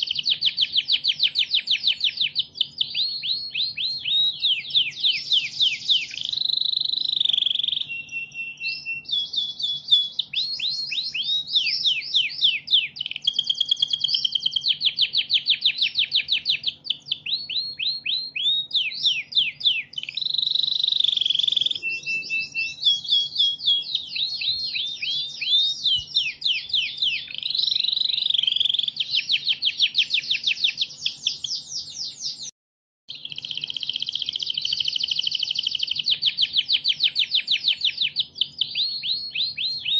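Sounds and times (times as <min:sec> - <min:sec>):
canary singing trills: 0:00.0 - 0:32.5, 0:33.1 - 0:39.9.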